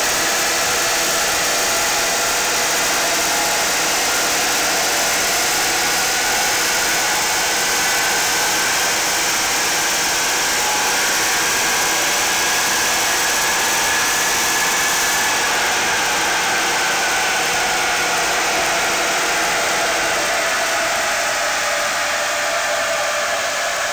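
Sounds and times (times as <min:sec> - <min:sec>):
diesel engine on dynamometer: 0:00.0 - 0:23.9.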